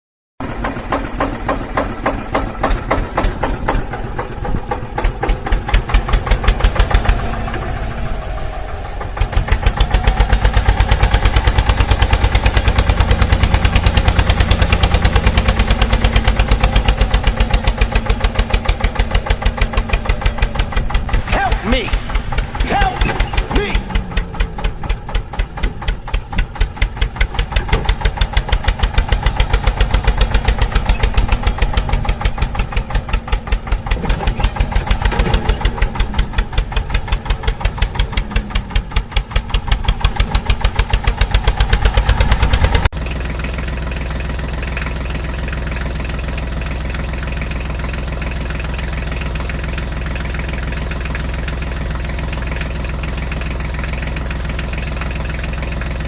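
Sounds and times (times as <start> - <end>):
steady engine drone: 0.4 - 56.0
tractor engine running: 0.4 - 56.0.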